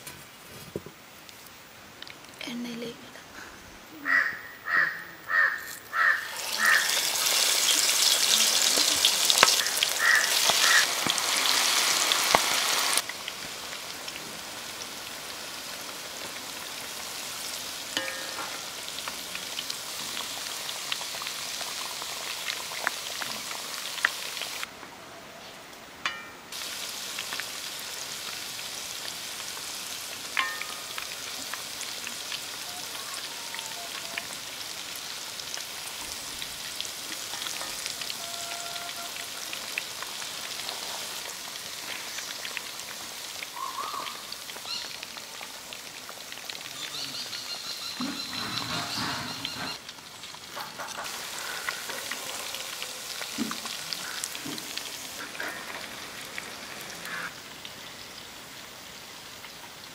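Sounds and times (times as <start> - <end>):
chicken deep-frying in oil sizzling: 4.1 - 24.7, 26.0 - 59.9.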